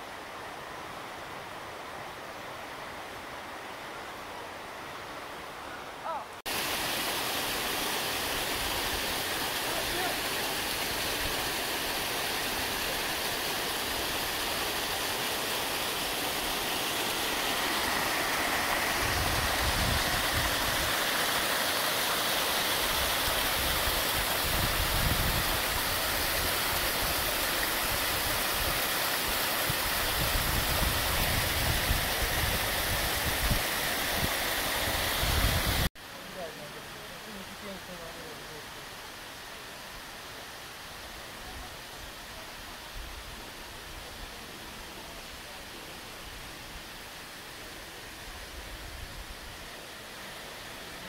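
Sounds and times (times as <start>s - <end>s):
stream cascading over rocks: 0.0s - 51.0s.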